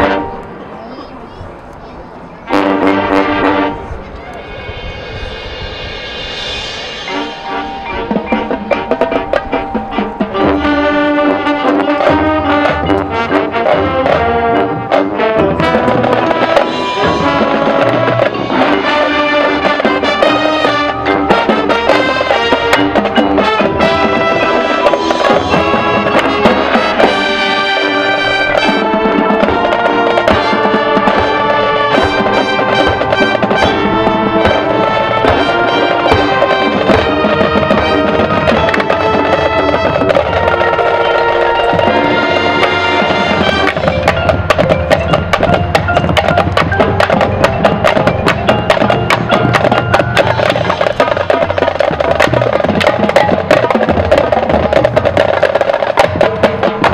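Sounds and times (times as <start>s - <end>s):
marching band brass and percussion: 0.0s - 56.9s
fast percussion strikes: 2.8s - 56.9s.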